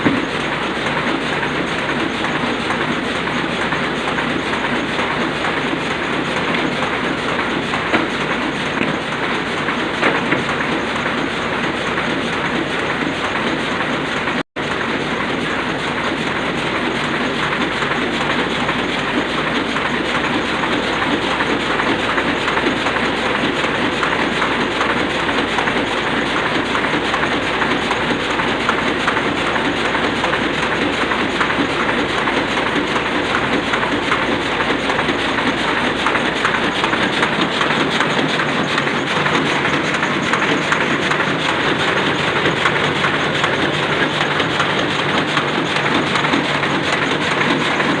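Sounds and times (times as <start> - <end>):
printing press clattering: 0.0 - 48.0.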